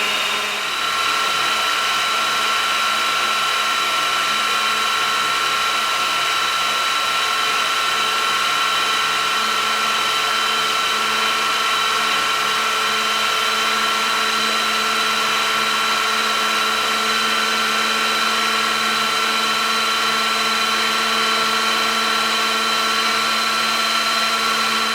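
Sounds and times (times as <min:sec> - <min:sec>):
model helicopter motor whine: 0:00.0 - 0:24.9.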